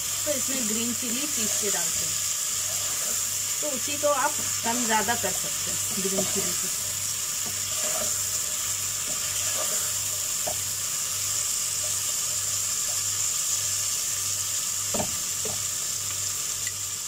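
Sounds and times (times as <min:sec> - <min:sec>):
food sizzling in a pot: 0:00.0 - 0:17.0
potatoes frying: 0:00.0 - 0:17.0.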